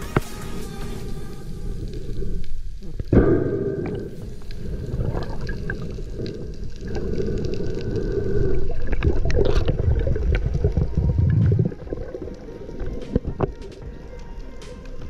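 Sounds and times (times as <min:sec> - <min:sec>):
muffled underwater rumble: 0:01.0 - 0:15.0.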